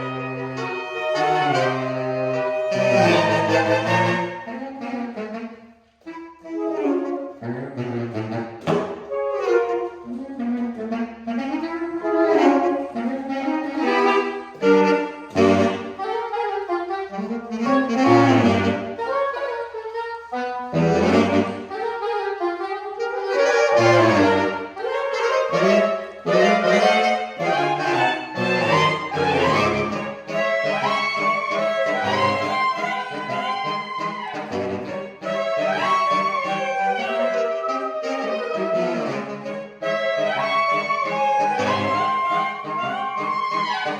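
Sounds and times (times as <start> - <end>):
saxophone quartet playing: 0.0 - 43.9.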